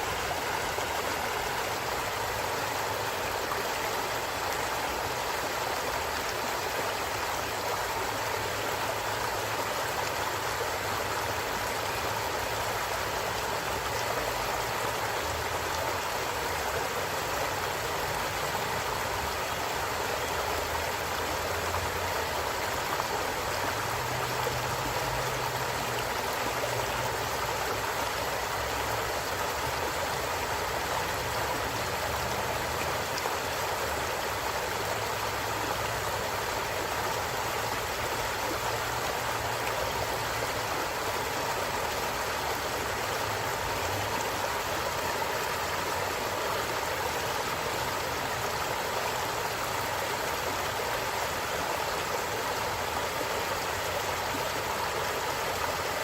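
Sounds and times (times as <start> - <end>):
stream water running over rocks: 0.0 - 56.0.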